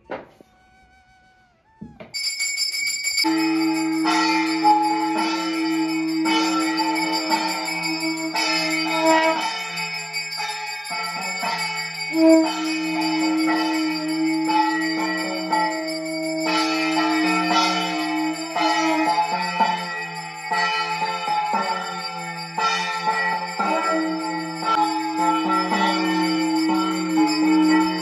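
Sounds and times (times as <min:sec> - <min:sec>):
music with bells ringing: 0:01.8 - 0:28.0.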